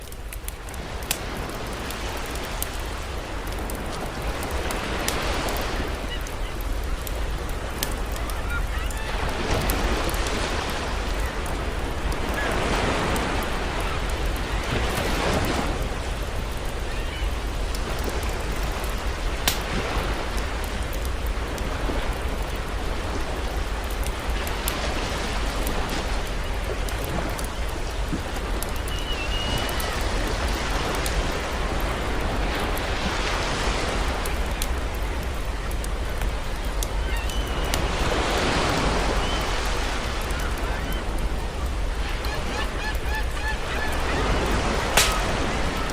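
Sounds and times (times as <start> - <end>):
campfire crackling: 0.0 - 45.9
sea waves washing onto shore: 0.0 - 45.9.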